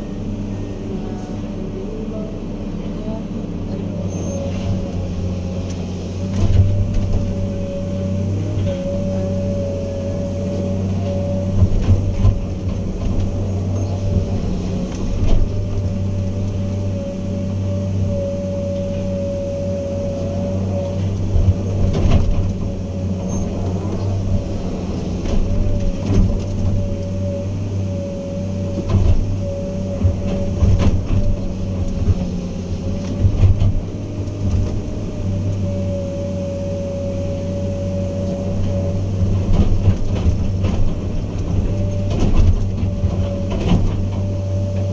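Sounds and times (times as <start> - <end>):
diesel engine drone: 0.0 - 44.9
steady machine whine: 0.0 - 44.9.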